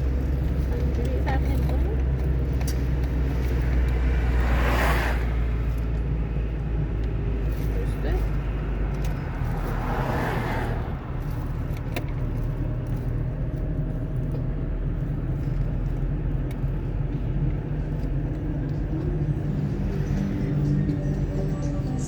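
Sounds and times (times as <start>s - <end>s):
car driving on wet road: 0.0s - 22.0s.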